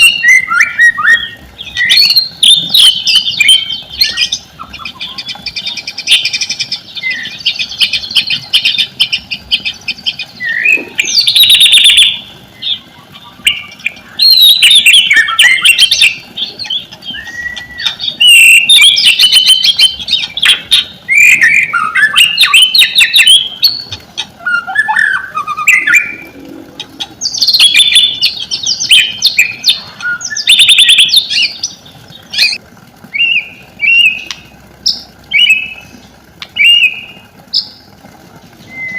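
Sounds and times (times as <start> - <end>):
songbird whistling and chattering: 0.0 - 37.8, 38.6 - 38.9.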